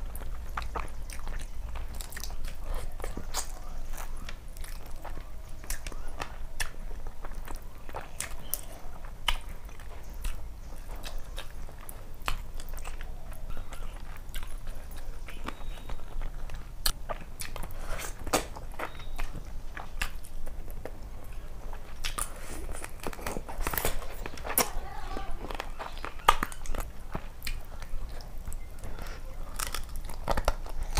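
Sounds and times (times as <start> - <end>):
chewing and biting: 0.0 - 30.9
faint low hum: 0.0 - 30.9.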